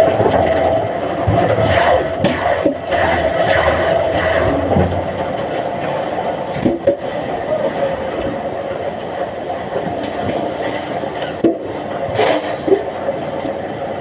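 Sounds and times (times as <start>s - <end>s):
heavy machinery running: 0.0s - 14.0s.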